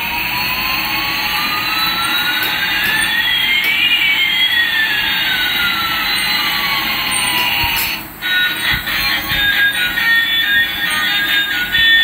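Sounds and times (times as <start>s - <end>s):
toy jet engine sound effect: 1.2s - 12.0s.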